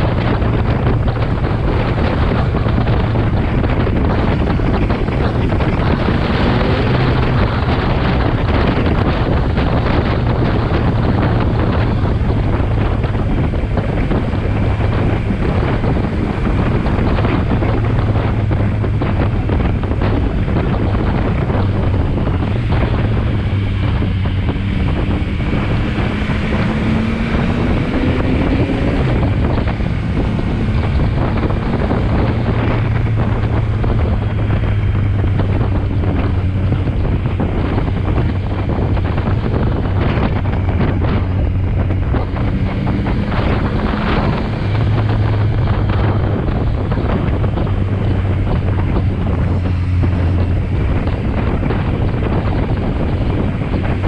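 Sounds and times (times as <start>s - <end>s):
motorcycle engine drone: 0.0s - 54.0s
wind rushing over microphone: 0.0s - 54.0s.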